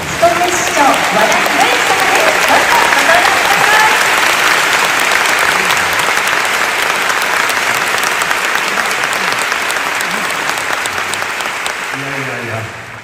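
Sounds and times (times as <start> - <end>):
large audience applauding: 0.0 - 13.0.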